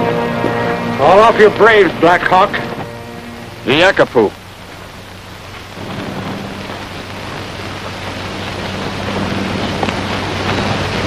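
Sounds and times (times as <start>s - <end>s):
low hum of film soundtrack: 0.0s - 11.0s.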